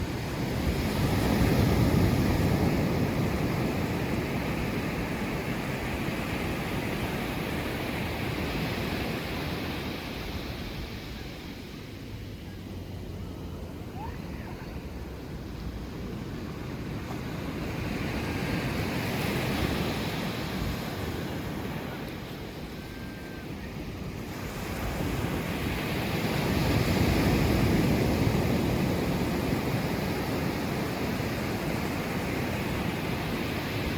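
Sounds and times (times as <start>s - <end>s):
waves breaking on shore: 0.0s - 12.1s, 13.4s - 33.9s.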